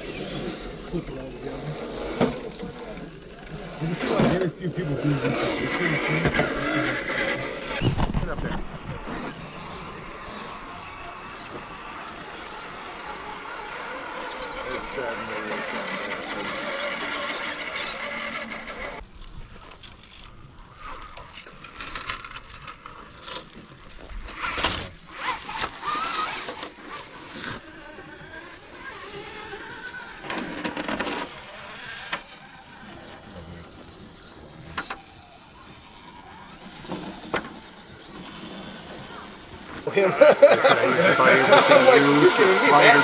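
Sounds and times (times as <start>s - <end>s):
small electric motor whining: 0.0s - 43.0s
tires and chassis scraping rock: 0.0s - 43.0s.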